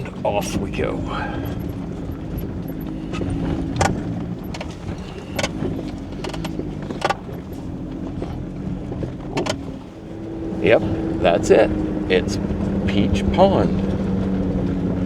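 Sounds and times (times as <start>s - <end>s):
sharp clicks and rattles: 0.0s - 12.8s
off-road vehicle engine running: 0.0s - 15.0s.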